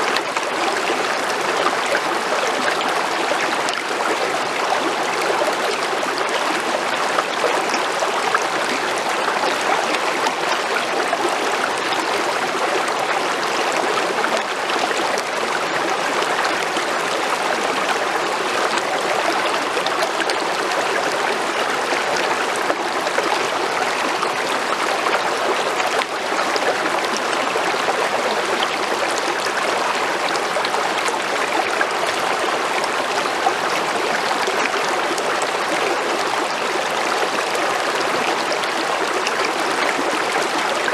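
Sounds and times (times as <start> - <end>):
creek water flowing over stones: 0.0 - 40.9.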